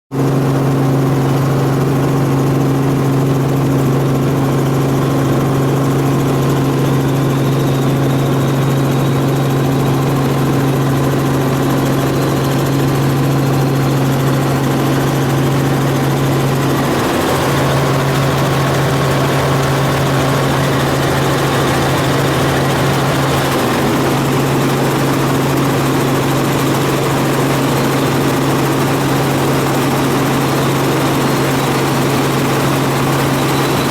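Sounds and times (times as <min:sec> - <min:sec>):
helicopter running: 0:00.2 - 0:33.9.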